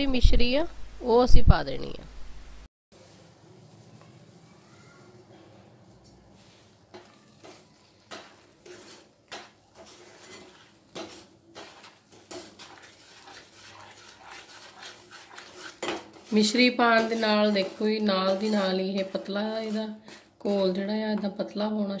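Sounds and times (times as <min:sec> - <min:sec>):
wooden spatula scraping a pan: 0:03.0 - 0:21.5.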